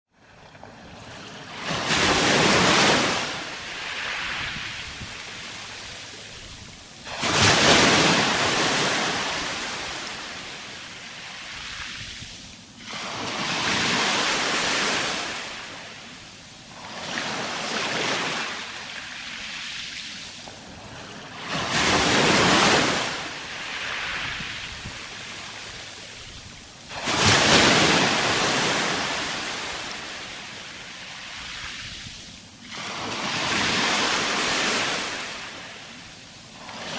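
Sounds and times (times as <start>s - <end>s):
sea waves breaking on shore: 0.2s - 36.9s.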